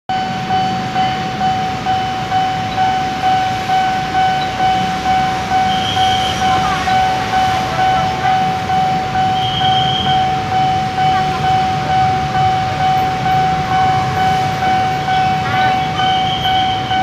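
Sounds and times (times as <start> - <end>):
level crossing warning bell ringing: 0.1 - 17.0.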